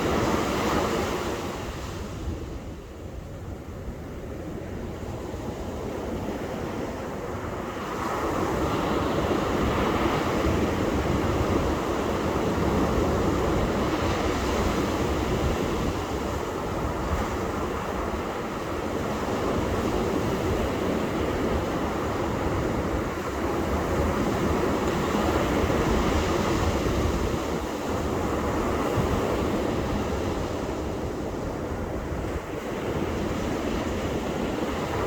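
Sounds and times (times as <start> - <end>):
ocean surf on a beach: 0.0 - 35.0.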